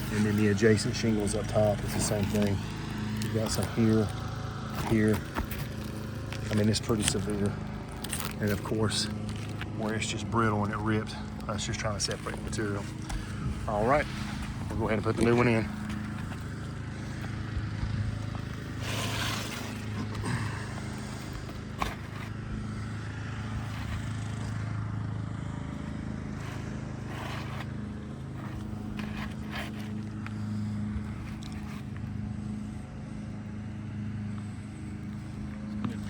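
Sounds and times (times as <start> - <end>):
shingles scraping and knocking: 0.0 - 17.4, 18.1 - 24.6, 26.1 - 32.0
steady low hum: 0.0 - 36.0.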